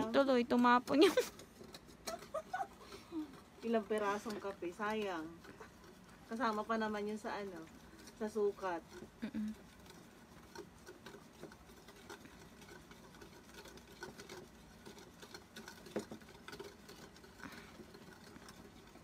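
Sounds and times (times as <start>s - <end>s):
metal whisk scraping ceramic bowl: 0.0s - 19.0s
whisk tapping bowl: 0.0s - 19.0s.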